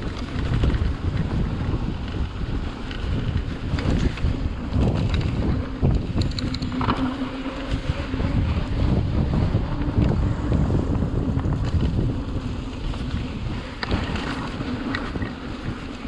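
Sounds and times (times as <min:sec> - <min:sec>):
bike rattles and clicks: 0:00.0 - 0:16.0
bike tyres rolling on dirt: 0:00.0 - 0:16.0
steady low buzz: 0:00.0 - 0:16.0
wind buffeting the microphone: 0:00.0 - 0:16.0.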